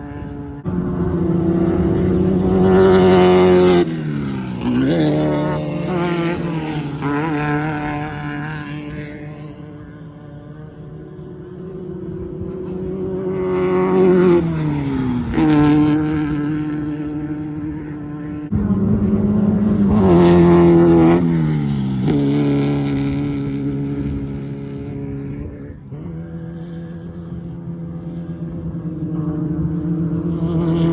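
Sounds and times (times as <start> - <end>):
race cars passing at high revs: 0.0 - 30.9.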